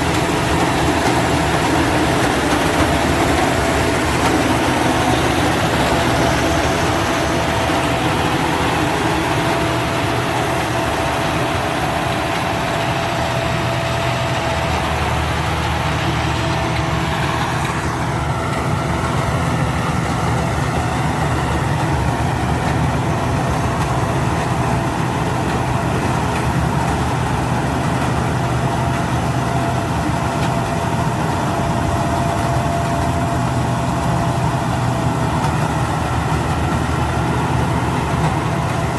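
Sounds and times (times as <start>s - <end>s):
combine harvester engine drone: 0.0s - 38.9s
thin steady whine: 0.0s - 38.9s.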